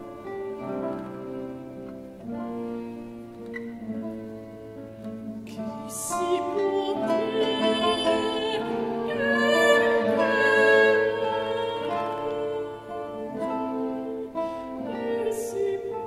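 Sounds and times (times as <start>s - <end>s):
classical guitar: 0.0s - 16.0s
soprano singing: 0.0s - 16.0s
violin: 0.0s - 16.0s.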